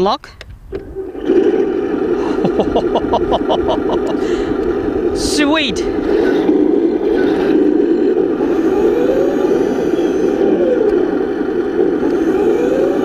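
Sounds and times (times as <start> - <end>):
toy tank engine rumble: 0.8 - 13.0.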